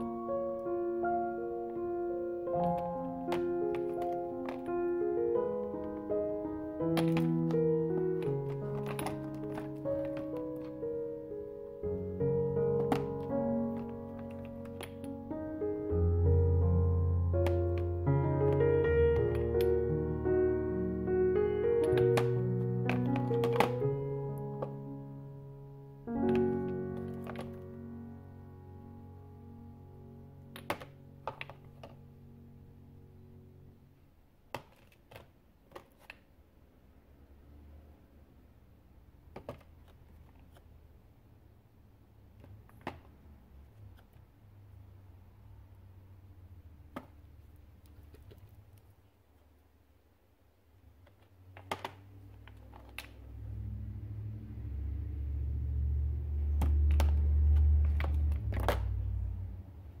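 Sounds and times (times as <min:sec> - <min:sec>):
quiet background music: 0:00.0 - 0:39.7, 0:50.8 - 1:00.0.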